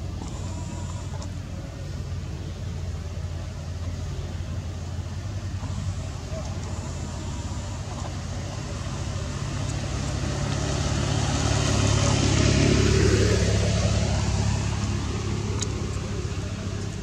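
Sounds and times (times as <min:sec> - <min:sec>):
steady low hum: 0:00.0 - 0:17.0
vehicle passing by: 0:00.0 - 0:17.0.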